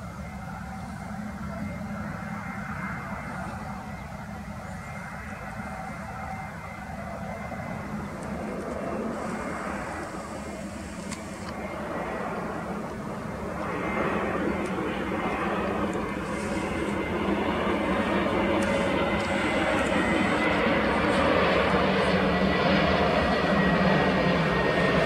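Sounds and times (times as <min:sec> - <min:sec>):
jet engines drone: 0:00.0 - 0:25.0.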